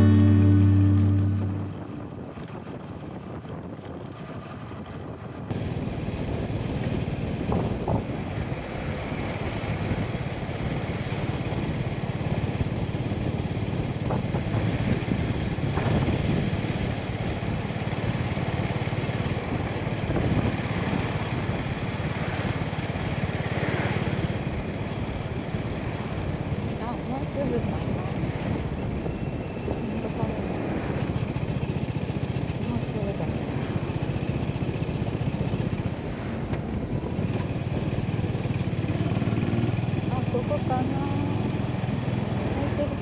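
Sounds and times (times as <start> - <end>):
motorcycle engine running: 0.0 - 28.0, 30.9 - 43.0
steady rushing noise: 5.0 - 43.0.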